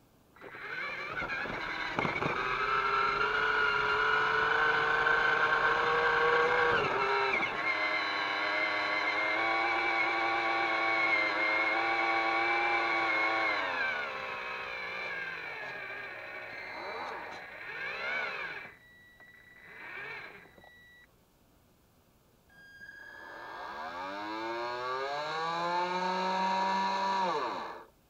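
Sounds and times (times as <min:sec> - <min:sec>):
toy electric motor whining: 0:00.4 - 0:21.0, 0:22.6 - 0:27.9.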